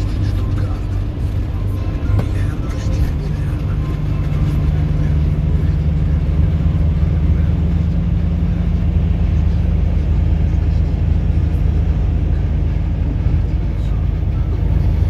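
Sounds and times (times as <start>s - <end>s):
car engine and tyre drone: 0.0s - 15.0s.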